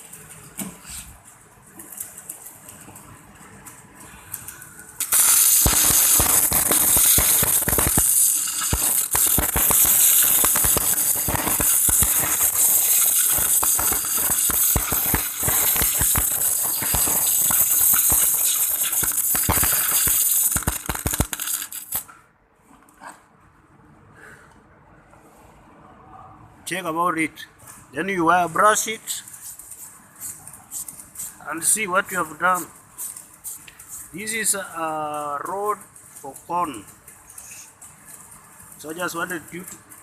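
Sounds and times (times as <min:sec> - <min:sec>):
welding arc crackling: 0:01.2 - 0:22.1, 0:28.6 - 0:40.0.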